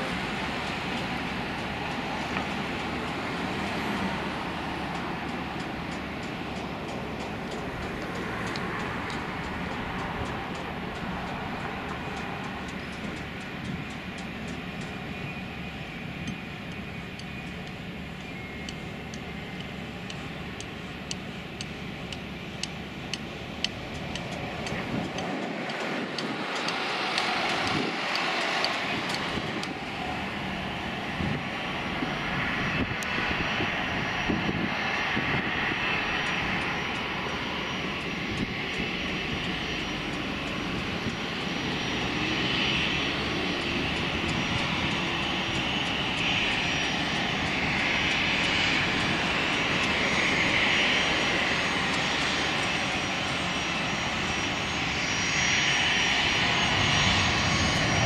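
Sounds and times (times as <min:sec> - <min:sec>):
airliner approaching: 0:00.0 - 0:58.0
jet landing and rolling out: 0:00.0 - 0:58.0.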